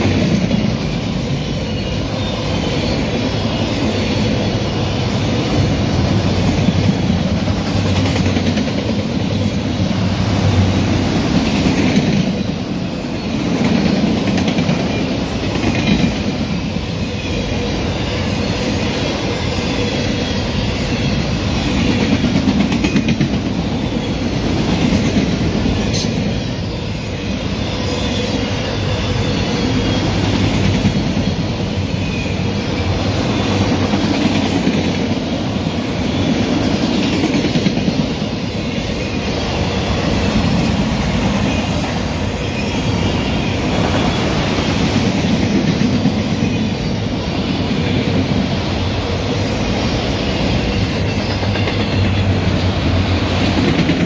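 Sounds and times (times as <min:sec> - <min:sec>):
wheels clacking over rail joints: 0:00.0 - 0:26.5, 0:27.3 - 0:46.9, 0:50.3 - 0:54.0
freight train rolling past: 0:00.0 - 0:54.0.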